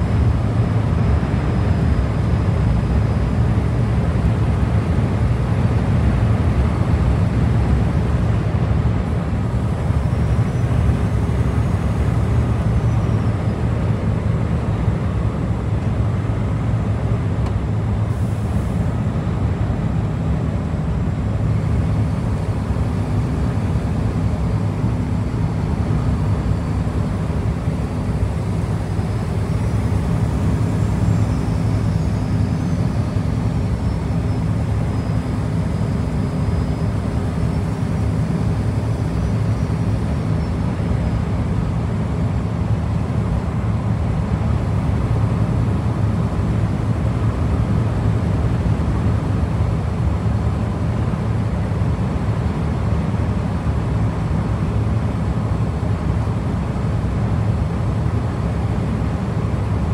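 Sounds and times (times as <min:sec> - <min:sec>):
road noise: 0:00.0 - 0:59.9
truck engine running: 0:00.0 - 0:59.9.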